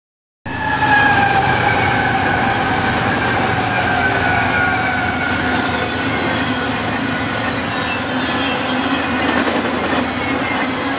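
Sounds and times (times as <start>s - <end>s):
freight train rumbling past: 0.5s - 10.9s.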